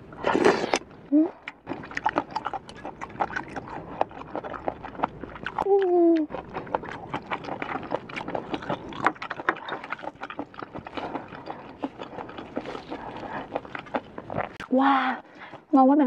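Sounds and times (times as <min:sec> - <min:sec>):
wet chewing and crunching: 0:00.0 - 0:15.8.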